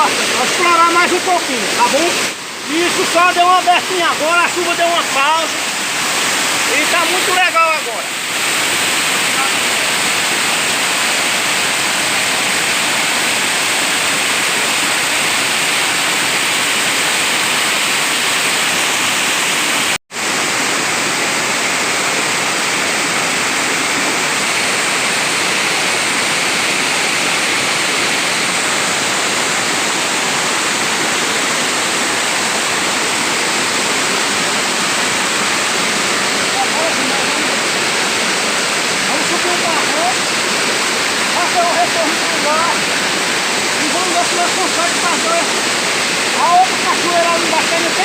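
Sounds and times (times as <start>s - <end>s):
waterfall roaring: 0.0s - 48.0s.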